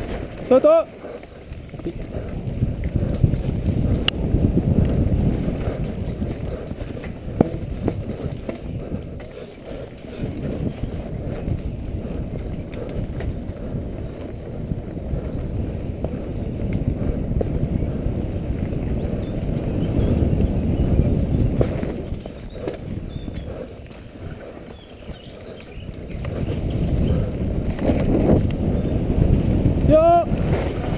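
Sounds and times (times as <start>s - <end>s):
bike rumbling and rattling: 0.0s - 30.9s
wind buffeting microphone: 0.0s - 30.9s.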